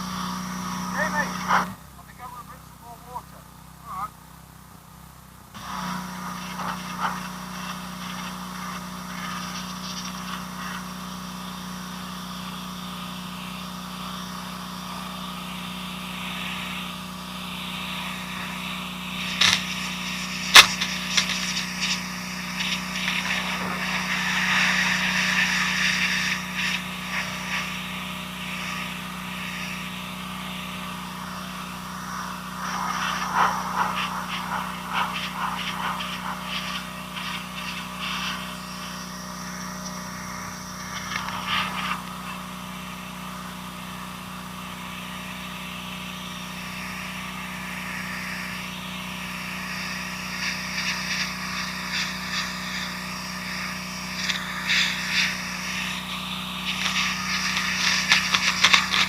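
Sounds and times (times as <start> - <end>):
engine hum: 0.0 - 59.0.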